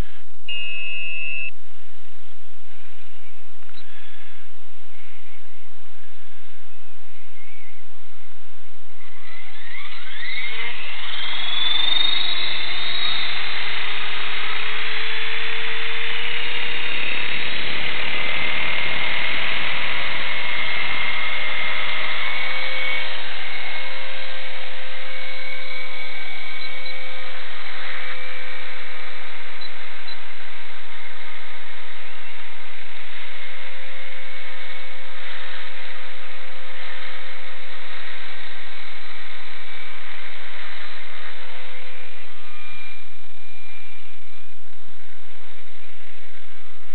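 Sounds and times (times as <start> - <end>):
model helicopter motor whine: 8.6 - 46.9.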